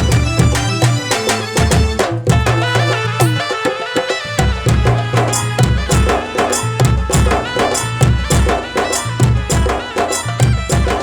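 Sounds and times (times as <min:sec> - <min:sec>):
devotional instrumental melody: 0:00.0 - 0:11.0
rhythmic drum beat with bass: 0:00.0 - 0:11.0.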